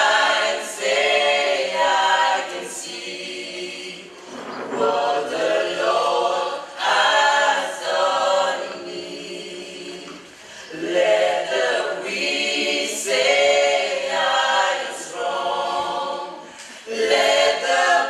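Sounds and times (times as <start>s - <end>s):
gospel choir singing a cappella: 0.0s - 18.0s.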